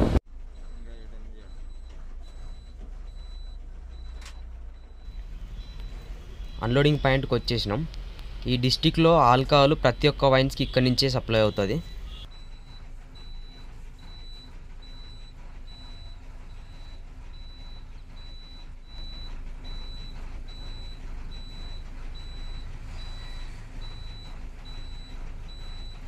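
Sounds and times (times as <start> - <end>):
diesel lorry engine running: 0.0 - 26.0
truck reversing alarm beeping: 0.3 - 26.0.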